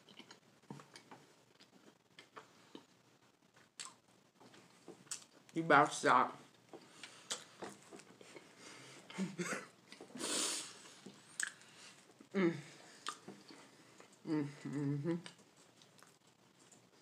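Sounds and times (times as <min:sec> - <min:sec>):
person chewing: 0:00.0 - 0:05.5, 0:06.5 - 0:16.8.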